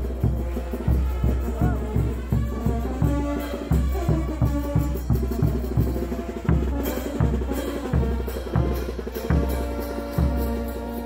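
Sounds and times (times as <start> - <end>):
bass drum beat: 0.0 - 11.0
brass sustained notes: 0.0 - 11.0.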